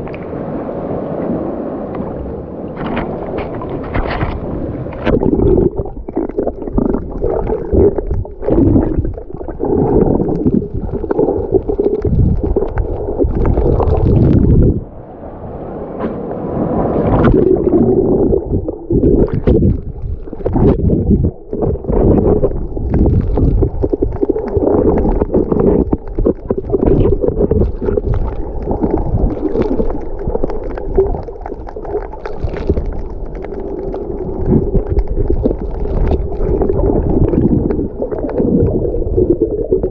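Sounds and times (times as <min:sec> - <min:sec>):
underwater rumble and gurgling: 0:00.0 - 0:39.9
sharp underwater pops and clicks: 0:02.8 - 0:14.7, 0:17.2 - 0:39.9.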